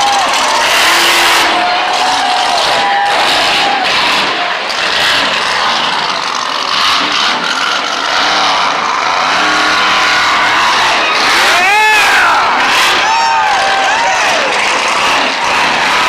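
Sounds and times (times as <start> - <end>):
truck engine revving loudly: 0.0 - 16.0.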